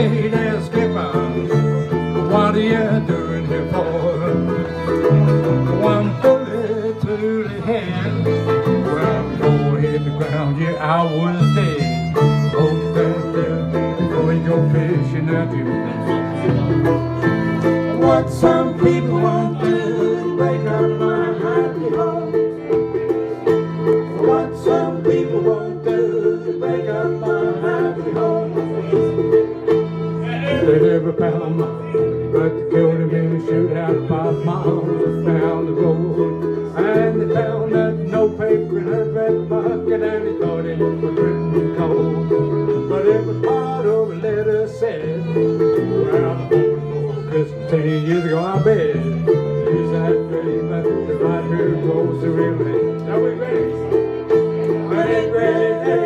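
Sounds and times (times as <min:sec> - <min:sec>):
bowed fiddle: 0:00.0 - 0:56.0
plucked string instrument: 0:00.0 - 0:56.0
strummed acoustic guitar: 0:00.0 - 0:56.0.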